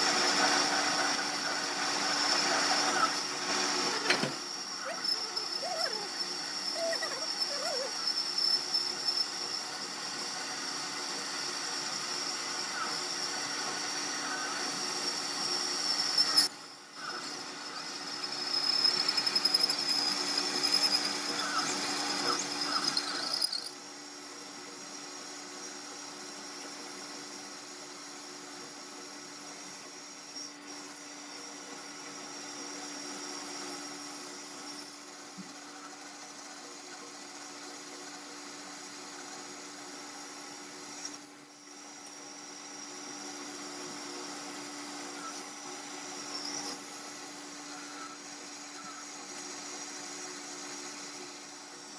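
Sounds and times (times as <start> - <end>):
high-pitched wavering power tool: 0.0 - 51.9.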